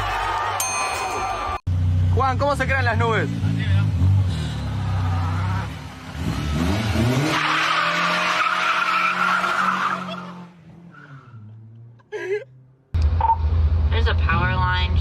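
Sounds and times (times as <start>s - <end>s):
vehicle engine revving: 1.7s - 13.9s.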